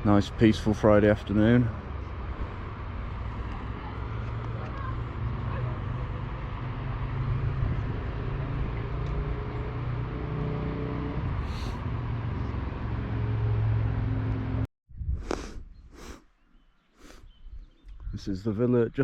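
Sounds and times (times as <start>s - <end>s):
wind and tyre noise: 0.0s - 16.2s.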